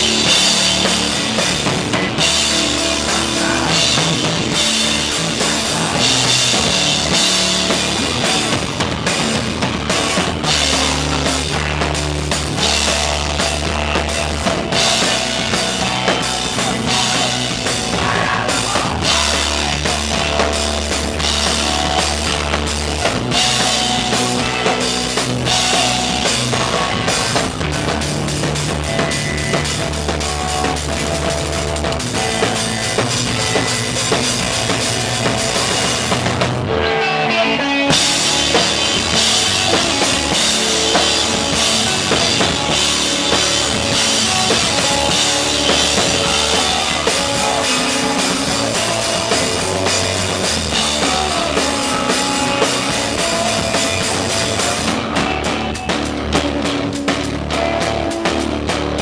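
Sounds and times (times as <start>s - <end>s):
drum kit with crashing cymbals: 0.0s - 36.6s, 37.9s - 59.0s
electric bass: 0.0s - 59.0s
electric guitar: 0.0s - 59.0s.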